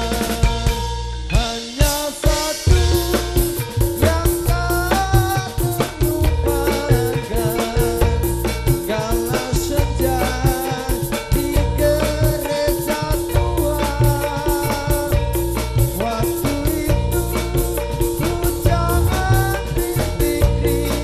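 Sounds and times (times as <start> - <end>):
fast drum beat: 0.0 - 21.0
held melodic tones: 0.0 - 21.0.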